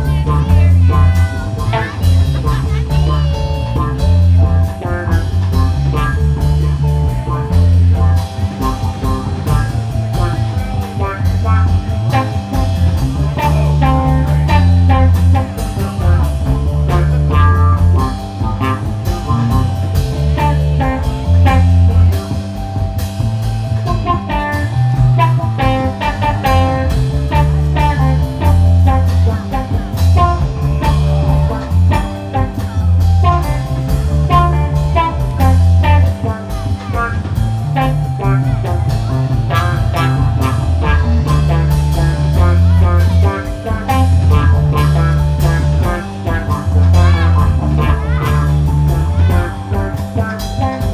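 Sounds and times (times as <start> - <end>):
blues rock band playing: 0.0 - 50.9.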